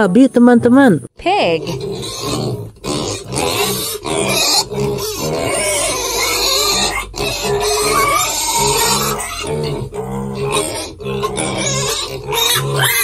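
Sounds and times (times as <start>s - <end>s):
piglets grunting and squealing: 1.5s - 13.0s.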